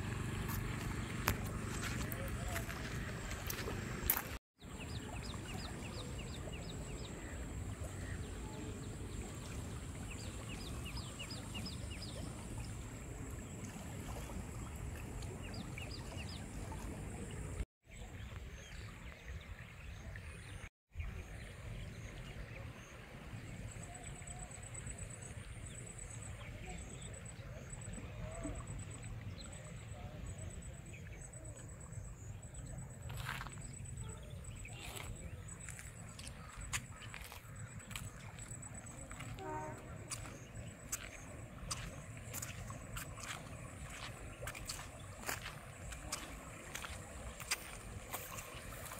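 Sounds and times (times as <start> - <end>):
floodwater rushing in river: 0.0 - 48.9.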